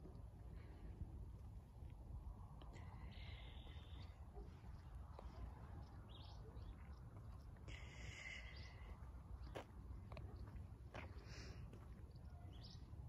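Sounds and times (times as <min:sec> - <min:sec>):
faint low rumble: 0:00.0 - 0:13.0.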